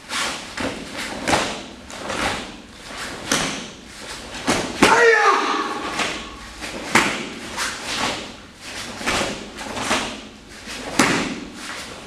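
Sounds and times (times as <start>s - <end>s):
bare feet stamping on mats: 0.2s - 12.0s.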